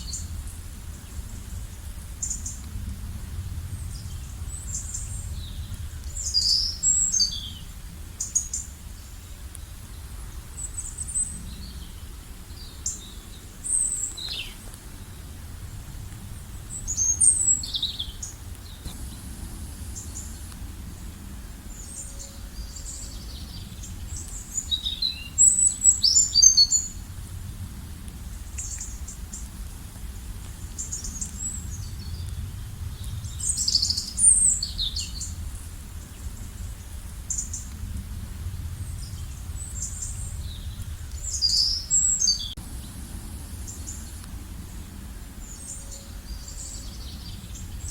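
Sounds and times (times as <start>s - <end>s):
low background rumble: 0.0s - 47.9s.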